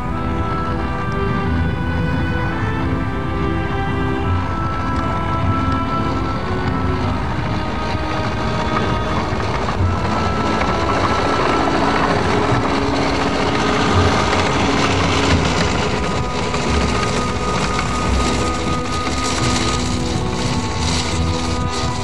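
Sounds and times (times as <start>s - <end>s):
tracked vehicle engine rumble: 0.0s - 22.0s.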